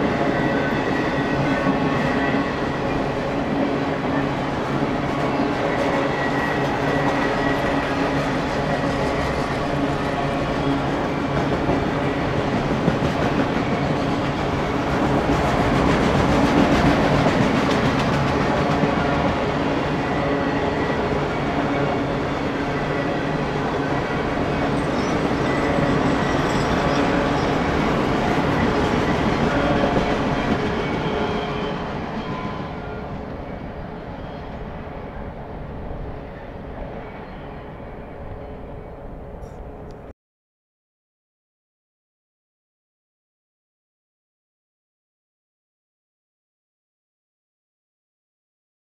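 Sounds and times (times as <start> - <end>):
train wheels rumbling on track: 0.0 - 40.1.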